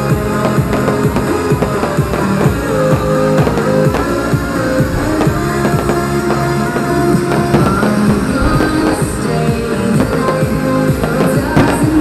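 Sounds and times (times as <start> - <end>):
rock music over loudspeakers: 0.0 - 12.0.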